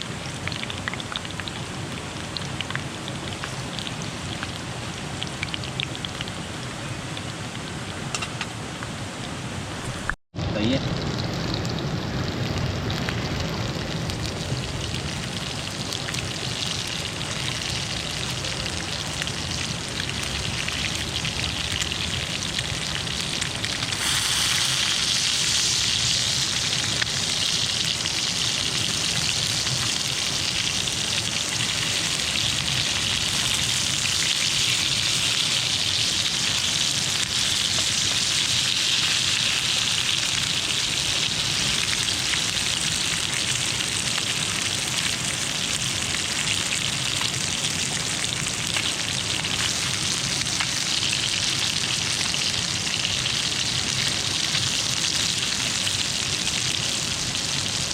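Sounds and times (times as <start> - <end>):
fish sizzling in hot oil: 0.0 - 57.9.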